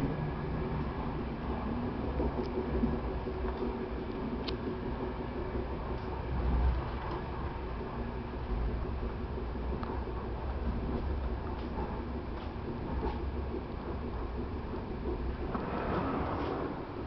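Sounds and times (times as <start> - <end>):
train running gear rumble: 0.0 - 17.0.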